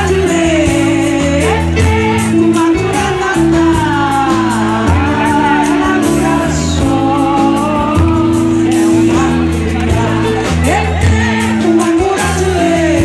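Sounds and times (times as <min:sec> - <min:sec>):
bass guitar notes: 0:00.0 - 0:13.0
drum kit: 0:00.0 - 0:13.0
electric guitar: 0:00.0 - 0:13.0
woman singing: 0:00.0 - 0:13.0.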